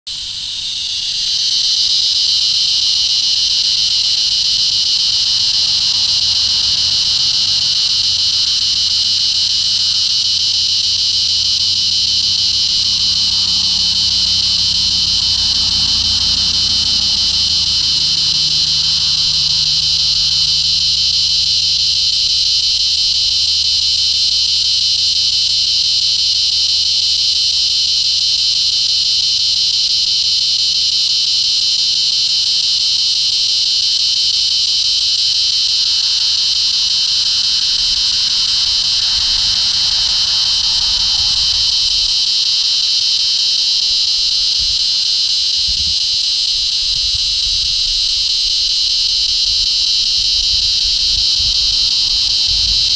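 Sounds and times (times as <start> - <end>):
cicada buzzing drone: 0.1 - 52.9.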